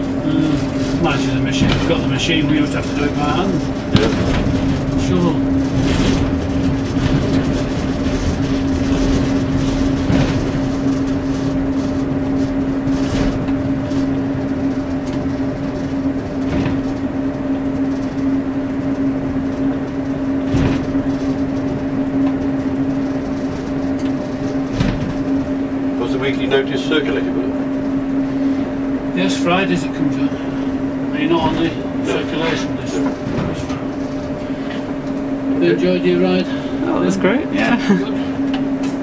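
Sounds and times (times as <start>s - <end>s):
diesel engine drone: 0.0s - 39.0s.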